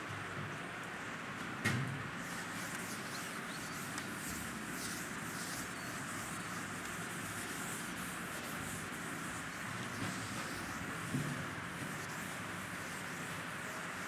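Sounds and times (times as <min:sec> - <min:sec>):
duster wiping chalkboard: 0:02.2 - 0:14.0.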